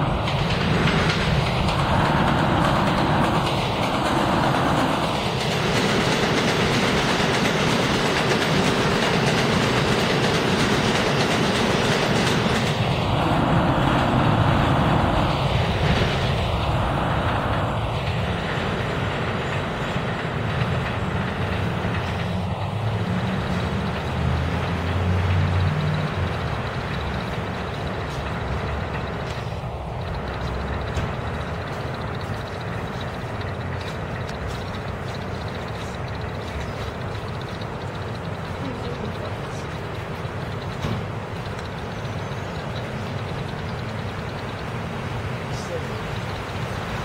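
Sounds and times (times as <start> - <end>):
train rumbling on elevated track: 0.0 - 47.0
wheels clacking over rail joints: 0.0 - 47.0.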